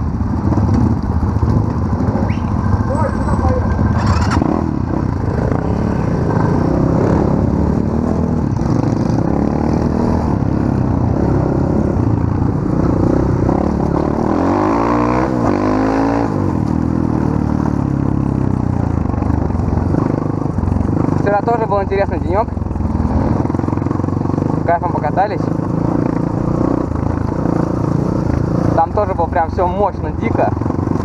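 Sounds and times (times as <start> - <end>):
pit bike engines revving: 0.0 - 31.0.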